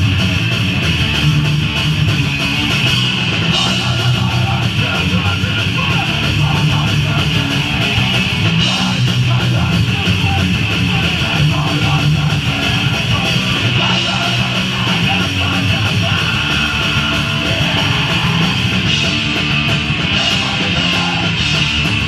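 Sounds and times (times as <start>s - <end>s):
loud punk band playing: 0.0s - 22.0s.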